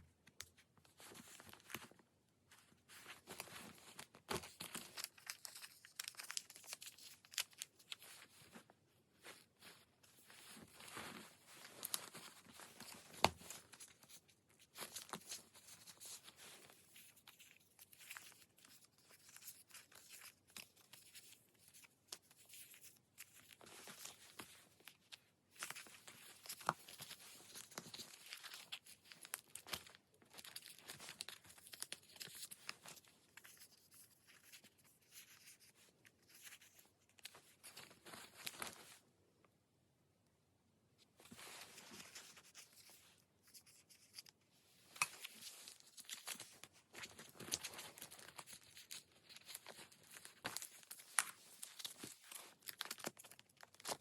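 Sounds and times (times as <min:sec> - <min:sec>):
paper and stickers rustling: 0:00.3 - 0:39.0, 0:41.0 - 0:54.0.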